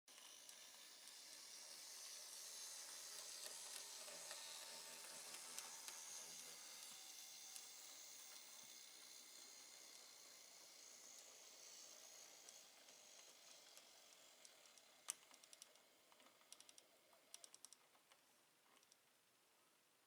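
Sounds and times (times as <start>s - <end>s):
model locomotive motor whine: 0.1s - 18.1s.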